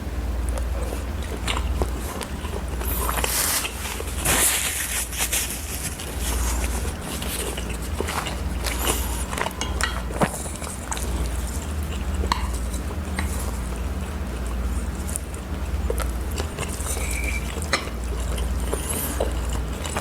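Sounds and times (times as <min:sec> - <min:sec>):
chewing and mouth sounds: 0:00.4 - 0:20.0.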